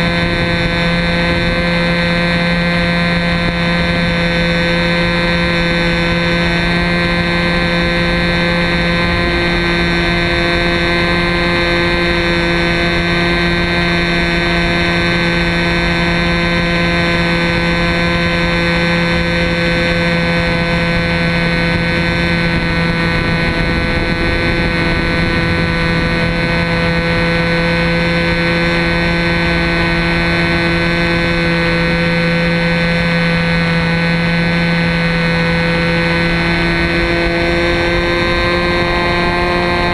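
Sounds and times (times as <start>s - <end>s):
model plane engine buzzing: 0.0s - 39.9s
wind rush: 0.0s - 39.9s.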